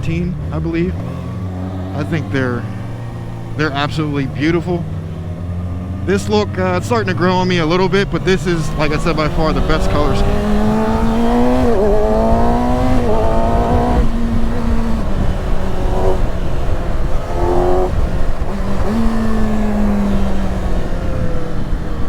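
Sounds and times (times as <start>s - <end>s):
engine throttle blips: 0.0s - 22.0s
motorcycle engine running: 0.0s - 22.0s.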